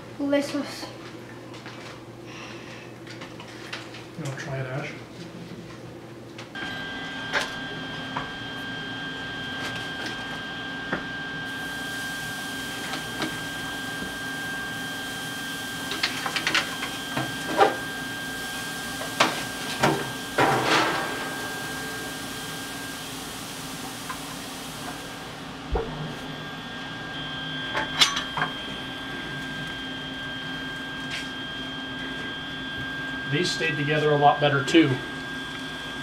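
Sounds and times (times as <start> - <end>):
steady high whine: 6.5 - 36.0.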